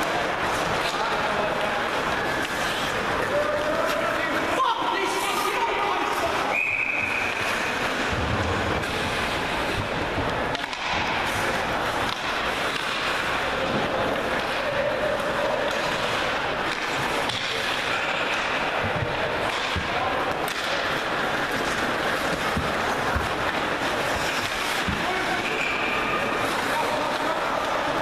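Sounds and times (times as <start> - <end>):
ice rink background noise: 0.0 - 28.0.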